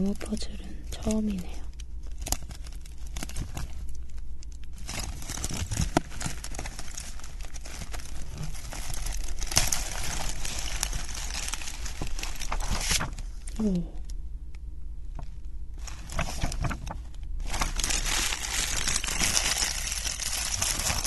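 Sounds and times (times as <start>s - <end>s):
plastic shrink wrap crinkling: 0.0s - 13.9s, 15.1s - 21.0s.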